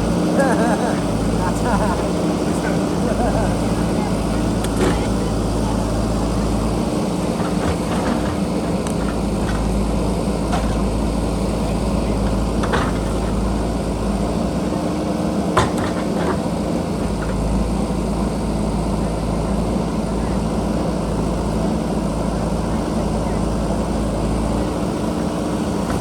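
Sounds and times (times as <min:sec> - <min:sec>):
backhoe diesel engine running: 0:00.0 - 0:26.0.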